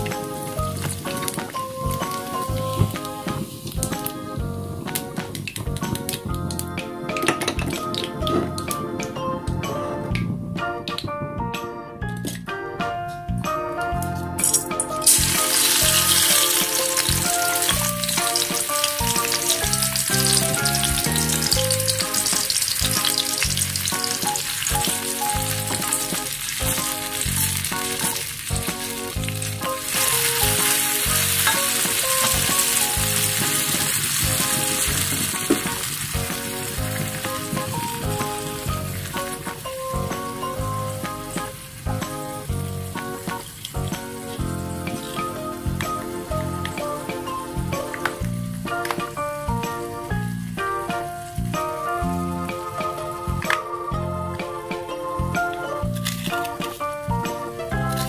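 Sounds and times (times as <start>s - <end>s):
food sizzling in a wok: 0.0s - 6.2s, 14.4s - 58.0s
background music: 0.0s - 58.0s.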